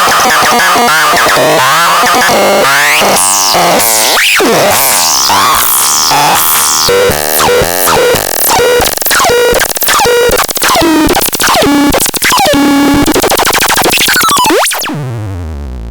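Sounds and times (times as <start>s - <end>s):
synthesizer sweeps and bleeps: 1.3s - 15.8s.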